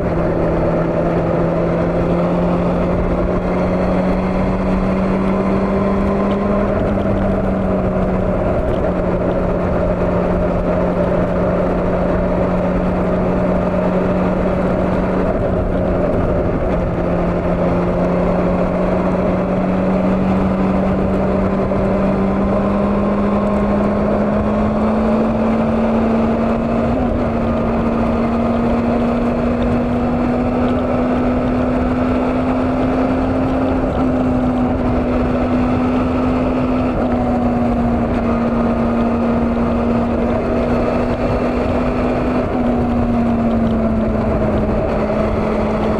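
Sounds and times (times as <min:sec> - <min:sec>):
motorcycle engine cruising: 0:00.0 - 0:45.9
rushing wind: 0:00.0 - 0:45.9.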